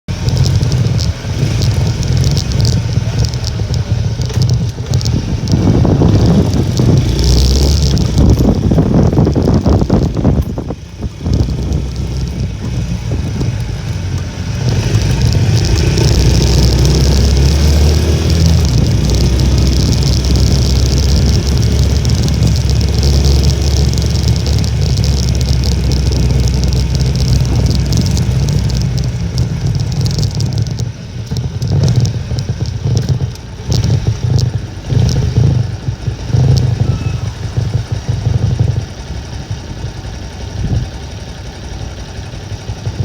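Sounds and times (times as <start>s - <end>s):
wind buffeting microphone: 0.1s - 41.6s
small moped engine running: 0.1s - 43.0s.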